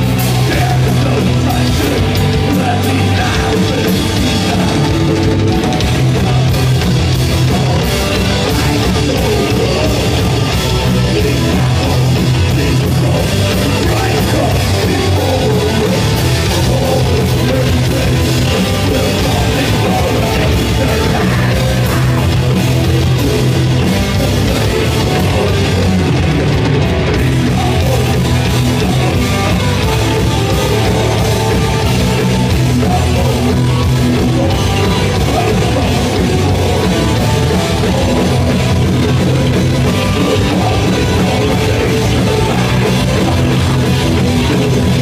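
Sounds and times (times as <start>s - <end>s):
drum kit: 0.0s - 45.0s
electric guitars: 0.0s - 45.0s.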